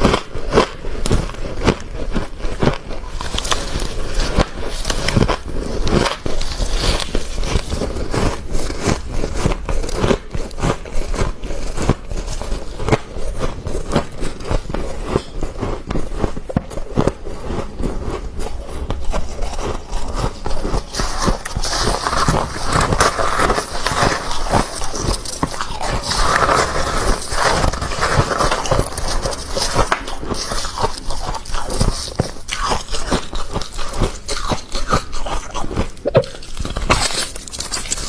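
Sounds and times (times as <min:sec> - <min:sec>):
frost being chewed with crunches: 0:00.0 - 0:38.0.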